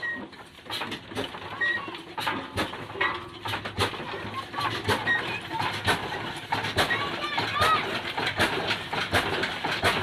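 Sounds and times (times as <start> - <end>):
diesel engine knocks: 0.0 - 10.0.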